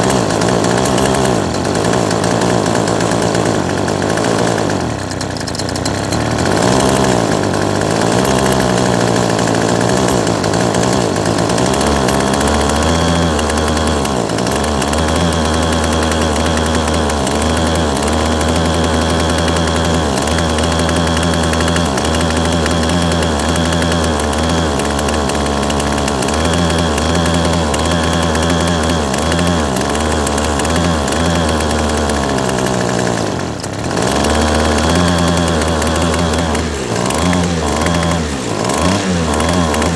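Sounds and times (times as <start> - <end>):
trimmer engine running at high speed: 0.0 - 39.9.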